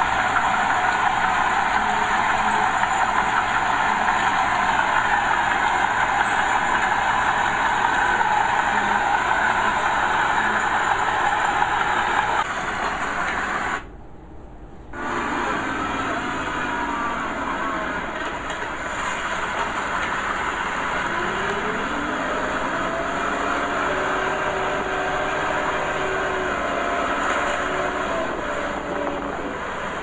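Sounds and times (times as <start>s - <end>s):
diesel machinery roaring: 0.0s - 13.9s, 15.0s - 30.0s.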